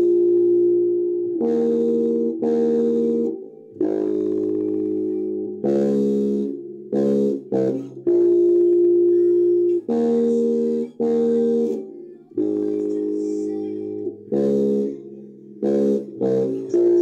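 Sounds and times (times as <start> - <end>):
electric bass guitar bassline: 0.0 - 17.0.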